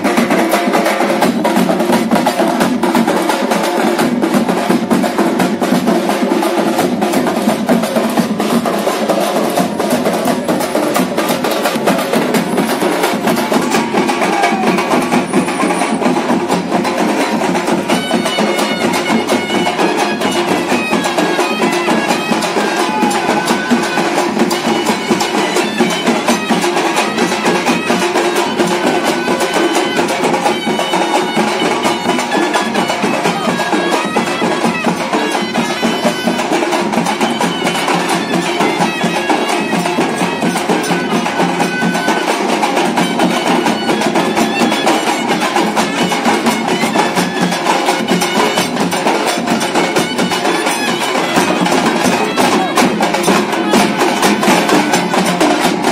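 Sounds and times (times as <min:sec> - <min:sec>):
drums and percussion rhythm: 0:00.0 - 0:55.9
wind instrument melody: 0:00.0 - 0:55.9.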